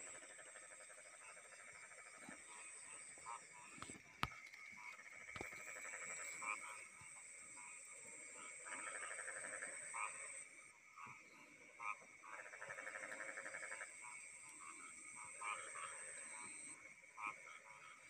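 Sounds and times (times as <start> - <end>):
frogs trilling and croaking: 0.0 - 18.0.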